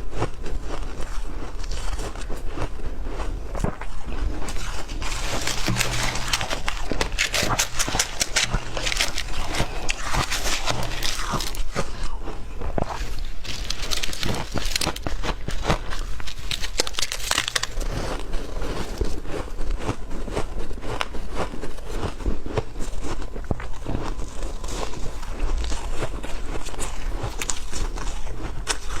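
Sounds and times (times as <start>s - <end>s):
ice being crunched and chewed: 0.0s - 29.0s.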